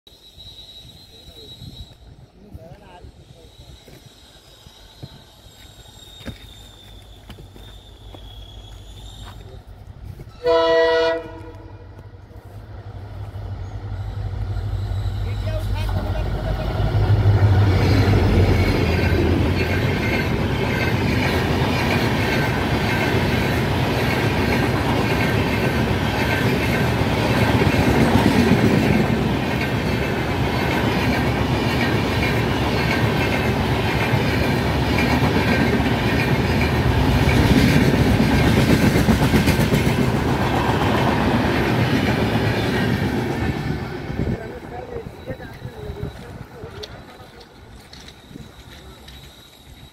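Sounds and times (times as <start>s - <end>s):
diesel locomotive engine drone: 0.1s - 49.9s
train coaches clattering on rails: 0.3s - 49.9s.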